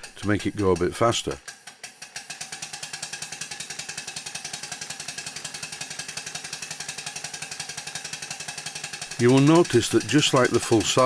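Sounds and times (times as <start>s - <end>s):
model engine exhaust puffs: 0.0s - 11.0s.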